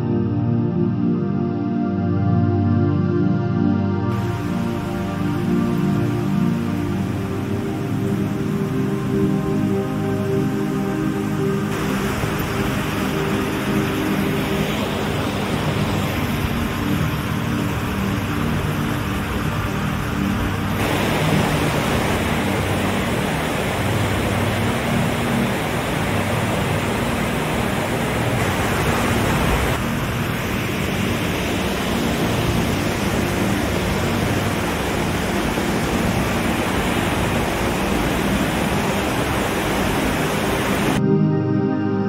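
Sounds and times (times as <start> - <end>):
waterfall rushing: 4.1 - 41.0.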